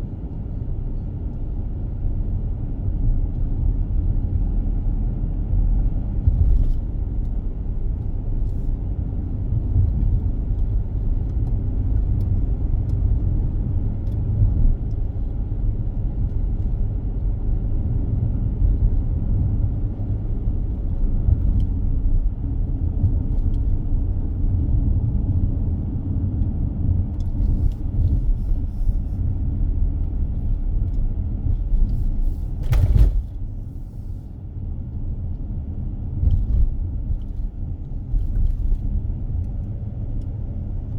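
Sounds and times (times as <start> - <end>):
car driving rumble: 0.0 - 40.9.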